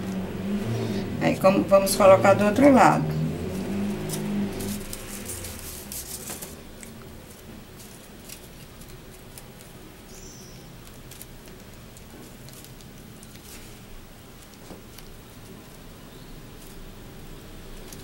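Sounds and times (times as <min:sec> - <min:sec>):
paper handled by fingers: 0:02.5 - 0:17.0.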